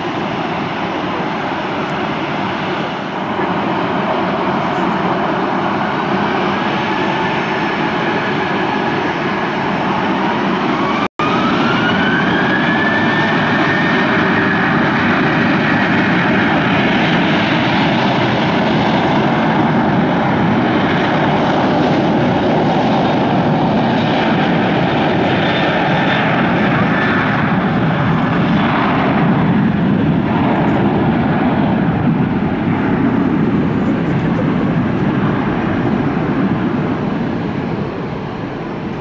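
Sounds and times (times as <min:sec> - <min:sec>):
jet engines spooling up: 0:00.0 - 0:39.0.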